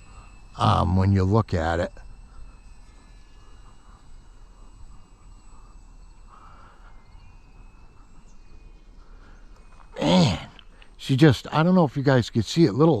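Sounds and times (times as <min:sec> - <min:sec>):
rc plane motor whine: 0:00.0 - 0:11.2.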